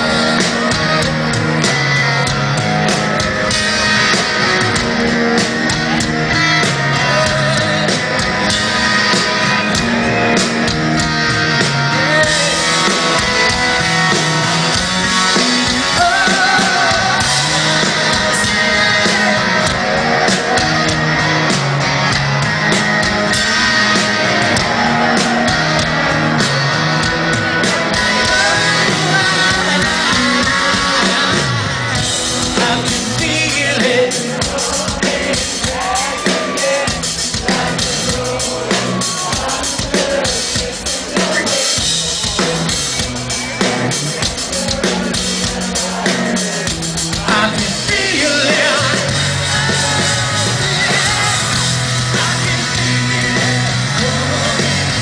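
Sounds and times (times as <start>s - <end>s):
drum kit beat: 0.0s - 55.0s
live rock band playing: 0.0s - 55.0s
person singing: 3.5s - 10.5s, 11.6s - 22.2s, 23.0s - 42.8s, 44.1s - 55.0s.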